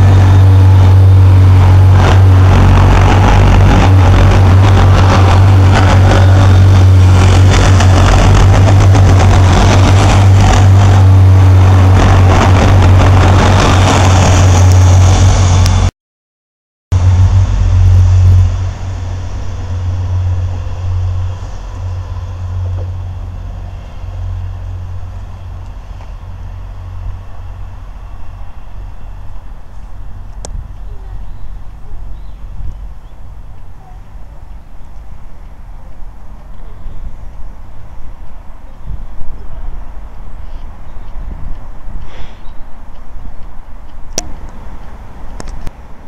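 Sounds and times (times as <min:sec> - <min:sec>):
diesel train engine drone: 0:00.0 - 0:15.9, 0:16.9 - 0:46.0.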